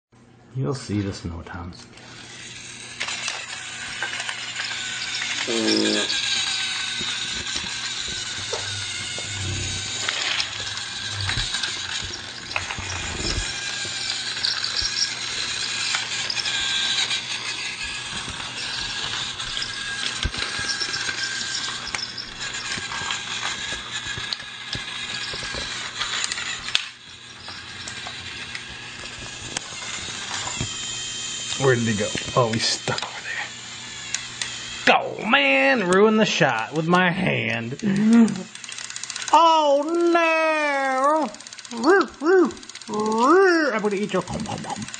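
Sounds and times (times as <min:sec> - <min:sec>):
toy train electric motor running: 0:02.0 - 0:44.9.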